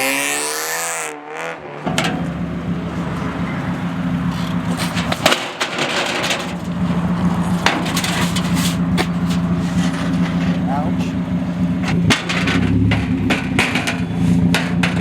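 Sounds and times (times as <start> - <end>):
car engine idling: 1.8 - 15.0.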